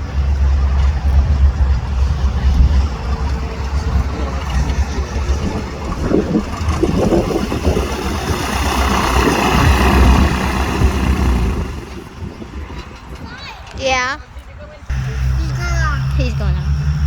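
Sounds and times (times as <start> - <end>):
propeller airplane engine running: 0.0 - 17.0.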